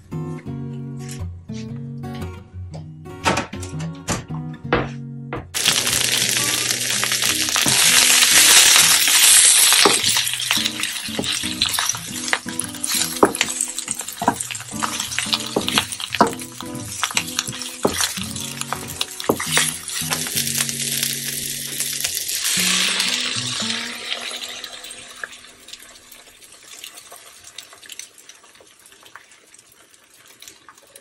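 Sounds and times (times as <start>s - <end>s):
spinach sizzling in a frying pan: 5.6s - 31.0s.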